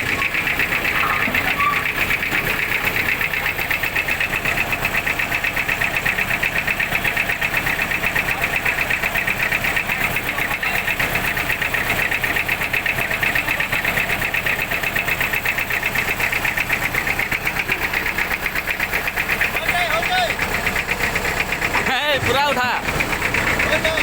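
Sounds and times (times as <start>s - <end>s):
construction machinery engine pulsing: 0.0s - 24.0s.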